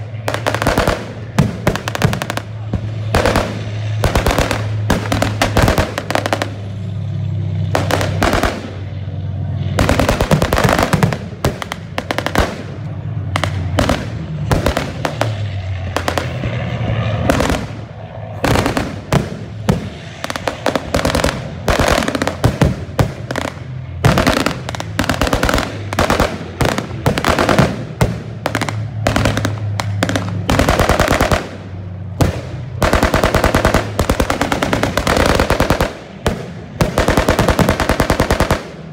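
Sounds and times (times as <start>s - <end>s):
machine-gun fire: 0.0s - 6.6s, 7.7s - 8.9s, 9.7s - 12.8s, 13.4s - 16.5s, 18.4s - 38.9s
low steady drone: 0.0s - 38.9s.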